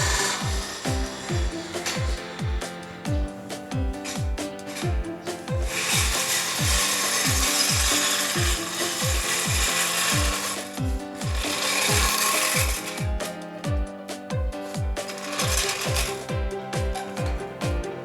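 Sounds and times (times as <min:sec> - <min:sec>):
power tool running: 0:00.0 - 0:13.9, 0:14.7 - 0:17.8
music with low thumping beat: 0:00.0 - 0:18.0.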